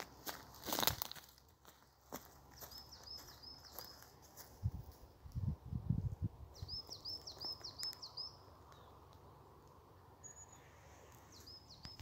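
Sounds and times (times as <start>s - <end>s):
songbird chirping: 0.2s - 5.3s, 6.1s - 12.0s.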